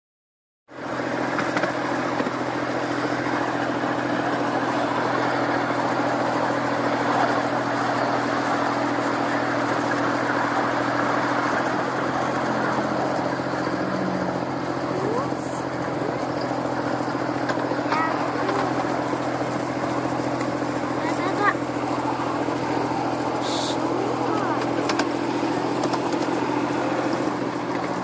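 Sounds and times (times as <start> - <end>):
miniature train motor drone: 0.7 - 28.0.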